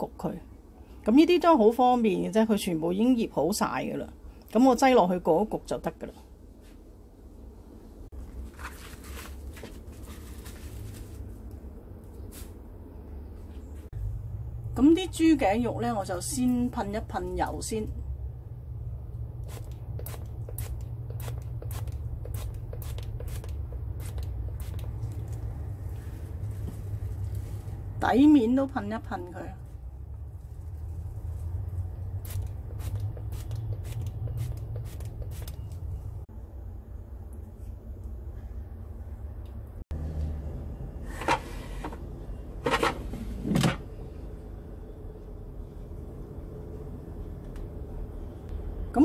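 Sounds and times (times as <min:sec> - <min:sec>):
steady low hum: 0:06.2 - 0:49.0.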